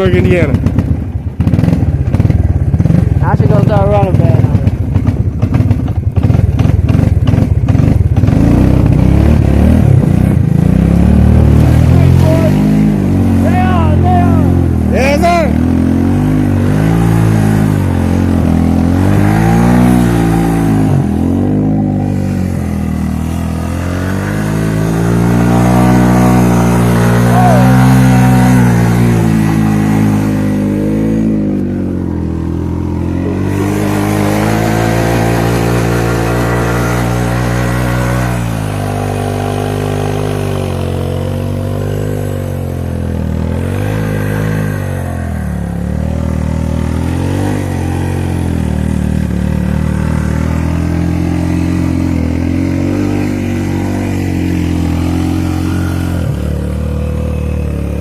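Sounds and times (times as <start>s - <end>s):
atv engine revving under load: 0.0s - 58.0s.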